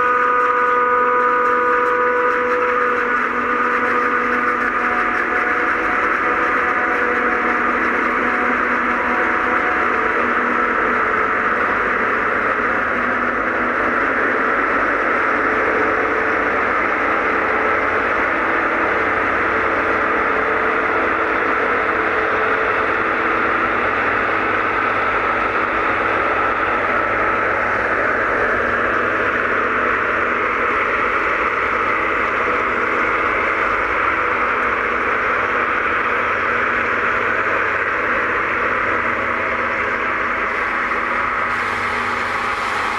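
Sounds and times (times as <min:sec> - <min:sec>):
forage harvester heavy drone: 0:00.0 - 0:42.9
tractor running: 0:00.0 - 0:42.9.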